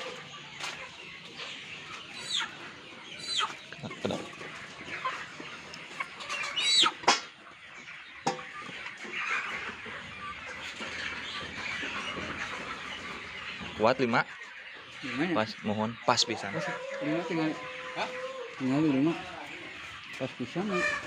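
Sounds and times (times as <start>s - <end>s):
chicken squawks: 0.0s - 21.0s
chickens clucking: 0.0s - 21.0s.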